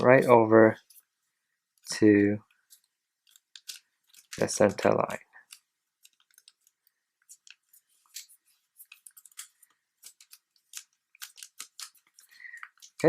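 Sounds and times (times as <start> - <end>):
paper crinkling: 1.7 - 13.0.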